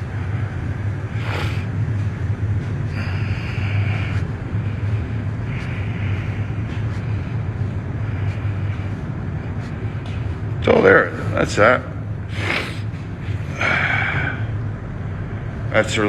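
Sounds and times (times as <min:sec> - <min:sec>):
low rumble: 0:00.0 - 0:16.0
ship machinery humming: 0:00.0 - 0:16.0.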